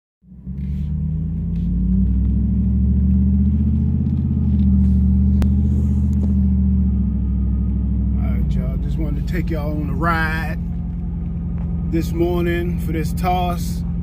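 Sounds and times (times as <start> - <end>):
vehicle engine and road rumble: 0.2 - 14.0.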